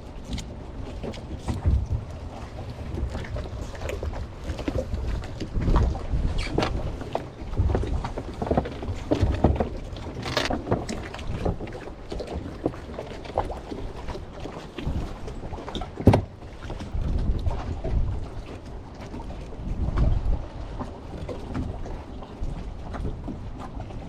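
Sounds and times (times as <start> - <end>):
wind on microphone: 0.0 - 12.2, 14.8 - 24.0
water sloshing against boat hull: 0.0 - 24.0.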